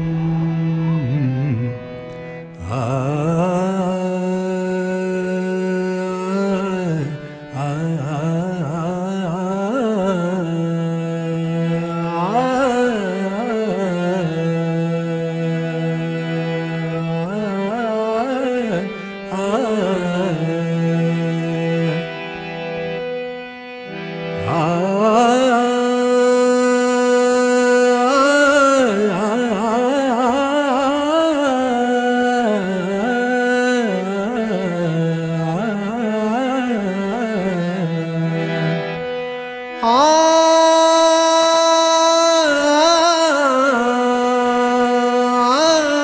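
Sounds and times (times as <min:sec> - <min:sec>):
man singing melismatic notes: 0:00.0 - 0:46.0.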